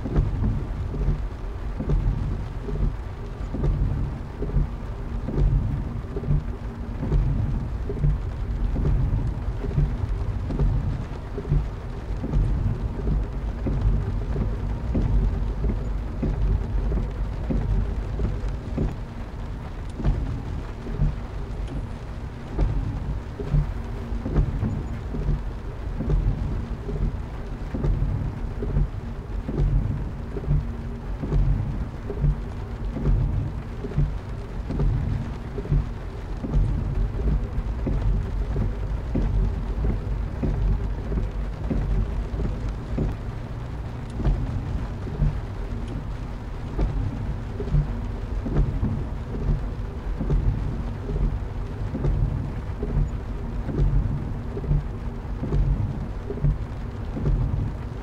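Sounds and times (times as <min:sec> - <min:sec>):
rain on a car window: 0:00.0 - 0:58.0.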